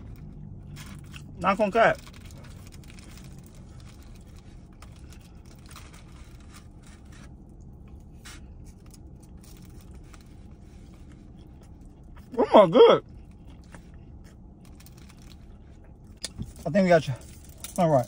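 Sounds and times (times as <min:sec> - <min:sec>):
scraping and crinkling: 0:00.0 - 0:12.2, 0:13.3 - 0:18.0
steady low hum: 0:00.0 - 0:18.0.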